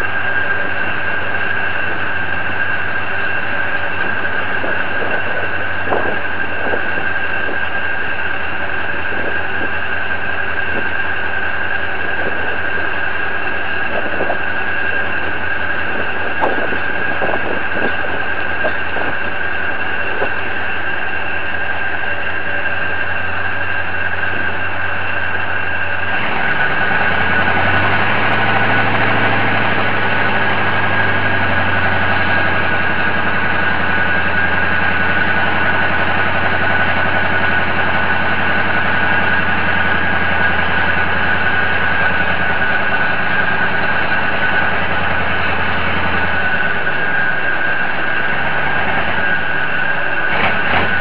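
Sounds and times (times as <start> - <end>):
high whine: 0.0 - 51.0
large engine running: 0.0 - 51.0.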